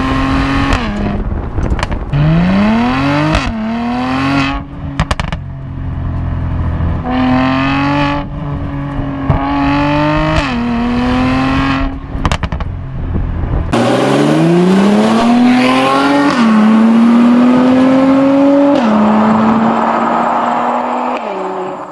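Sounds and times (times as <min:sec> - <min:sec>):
car engine accelerating with upshifts: 0:00.0 - 0:21.9.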